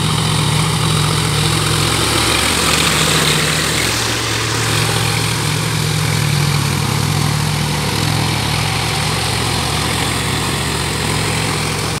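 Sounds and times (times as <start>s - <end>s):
tractor diesel engine running: 0.0s - 12.0s
wheels churning mud: 0.0s - 12.0s.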